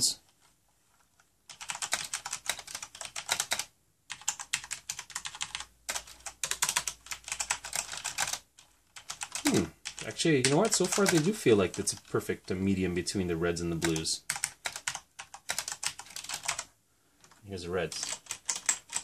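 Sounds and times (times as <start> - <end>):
fast typing on mechanical keyboard: 1.5 - 12.1, 13.8 - 19.0.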